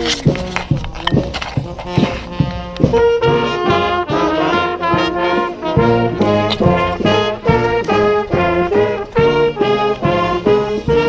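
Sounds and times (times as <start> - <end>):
brass band playing a rock tune: 0.0 - 11.0.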